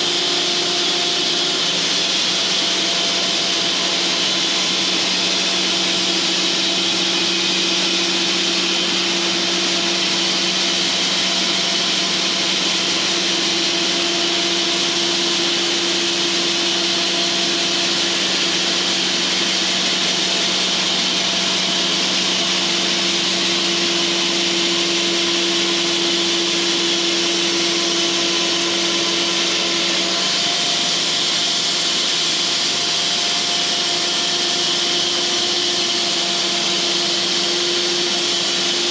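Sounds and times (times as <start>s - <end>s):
band sawmill cutting log: 0.0s - 38.9s.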